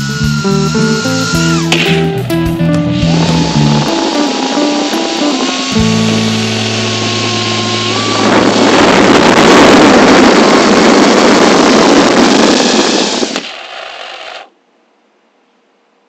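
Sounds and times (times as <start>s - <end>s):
drone propellers rushing hiss: 0.0s - 13.4s.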